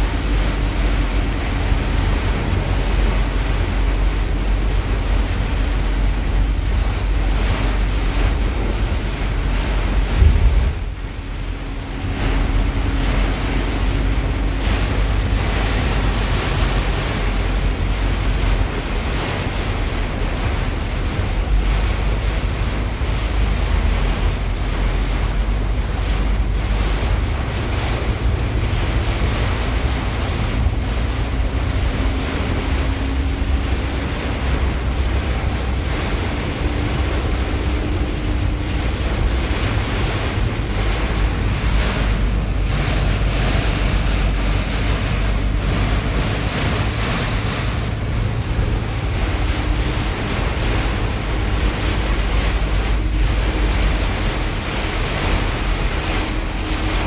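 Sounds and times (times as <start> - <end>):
heavy rain pouring: 0.0 - 57.0
wind buffeting microphone: 0.0 - 57.0.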